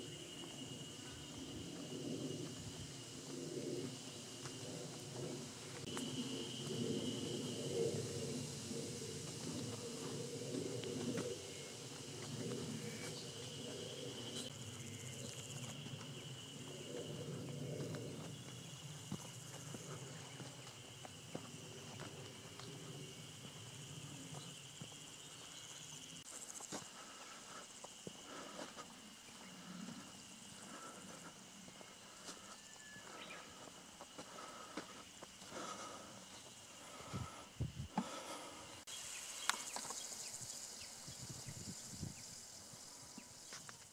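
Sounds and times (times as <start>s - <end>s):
insects buzzing: 0.0s - 43.9s.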